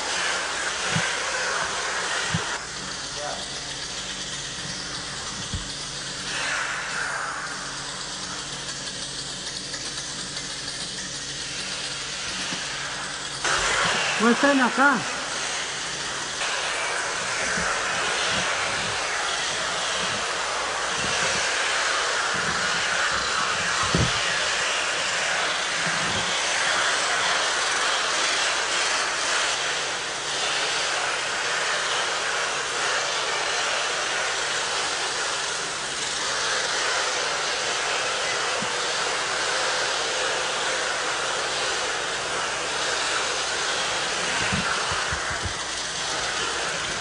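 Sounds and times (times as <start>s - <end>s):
steady rushing noise: 0.0s - 34.4s, 39.0s - 47.0s.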